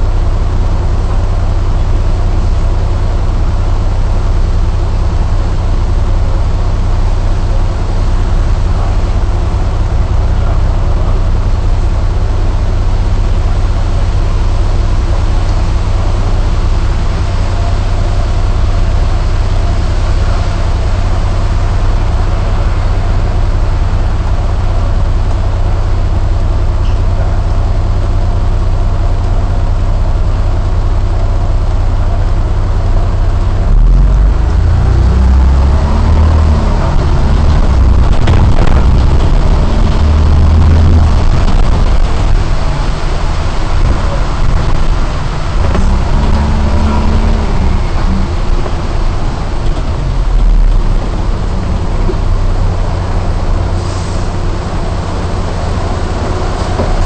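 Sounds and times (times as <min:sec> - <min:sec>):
bus diesel engine idling: 0:00.0 - 0:57.0
heavy rain hiss: 0:00.4 - 0:57.0.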